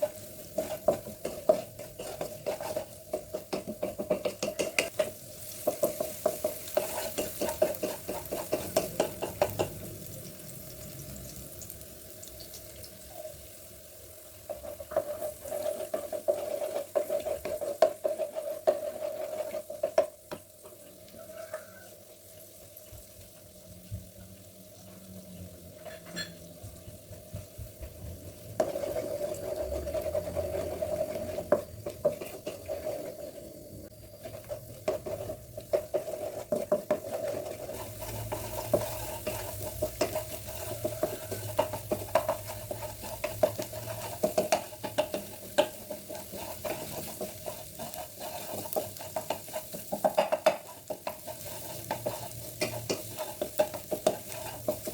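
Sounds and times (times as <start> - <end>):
spatula scraping a pan: 0.0 - 9.9, 14.2 - 22.8, 25.7 - 26.6, 28.3 - 54.9
food sizzling in a frying pan: 0.0 - 54.9.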